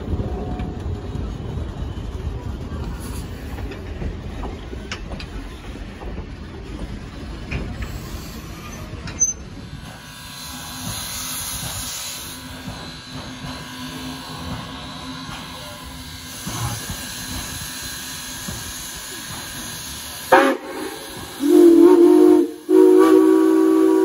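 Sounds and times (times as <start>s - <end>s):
steam locomotive hissing: 0.0s - 24.0s
train coaches rumbling by: 0.0s - 24.0s.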